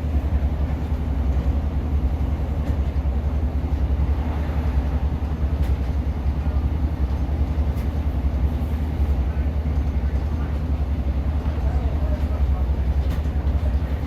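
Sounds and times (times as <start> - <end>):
train diesel engine rumble: 0.0 - 14.0.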